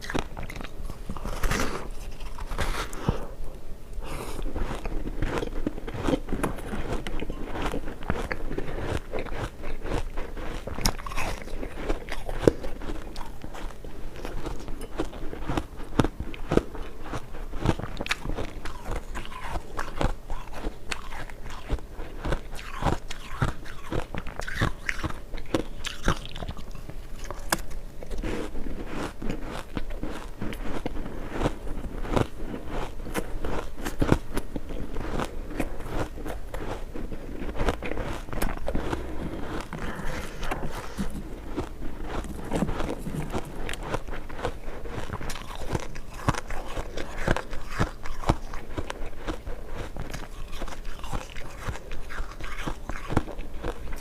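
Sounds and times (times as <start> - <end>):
chewing ice chunks crunching: 0.0 - 3.2, 4.0 - 54.0.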